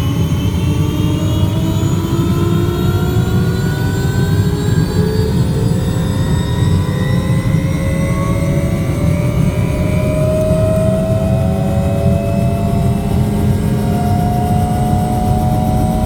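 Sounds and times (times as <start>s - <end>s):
helicopter rotor throb: 0.0s - 16.0s
turbine whine: 0.0s - 16.0s.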